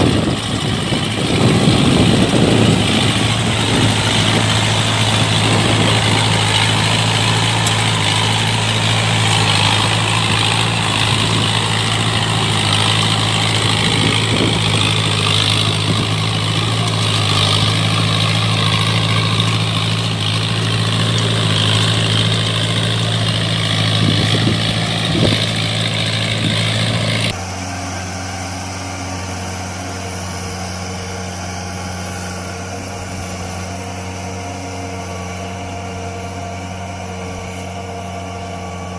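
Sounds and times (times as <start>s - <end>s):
diesel tiller engine running: 0.0s - 38.9s.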